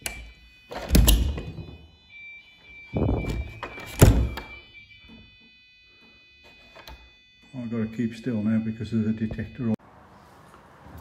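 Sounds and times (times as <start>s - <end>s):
alarm panel high beep: 0.0s - 9.8s.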